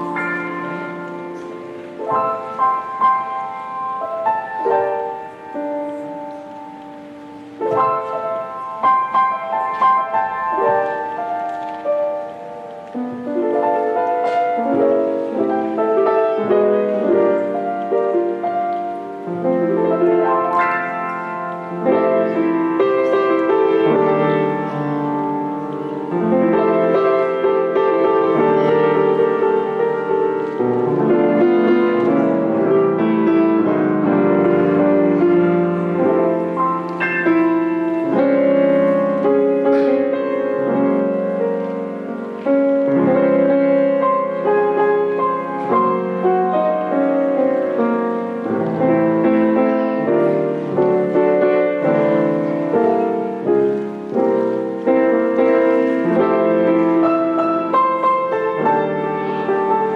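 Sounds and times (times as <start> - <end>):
slow keyboard music: 0.0 - 59.9.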